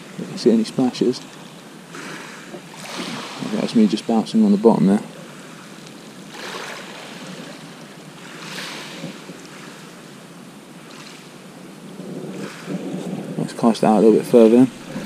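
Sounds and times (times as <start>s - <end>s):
waves washing onto shingle: 0.0s - 15.0s.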